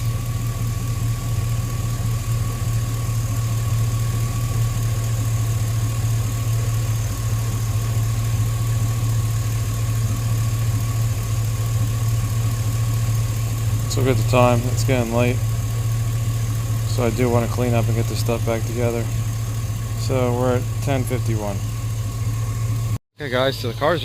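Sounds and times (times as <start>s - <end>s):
engine idling: 0.0s - 24.0s
thin steady whine: 0.0s - 24.0s.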